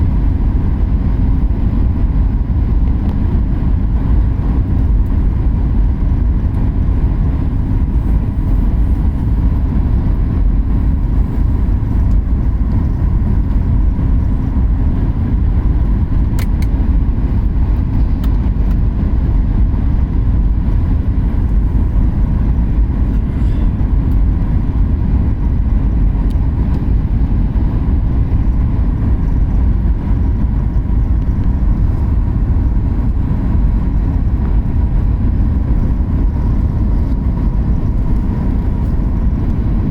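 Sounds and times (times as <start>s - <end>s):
airliner engines and airflow rumble: 0.0s - 39.9s
faint steady hum: 0.0s - 39.9s.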